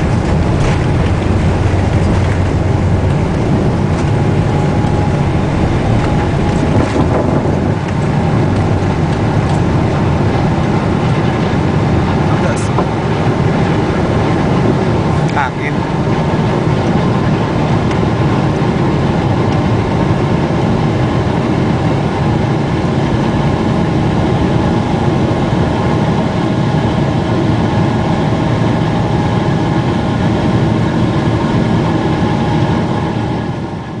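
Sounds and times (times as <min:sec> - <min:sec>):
jet engine and air rush: 0:00.0 - 0:34.0.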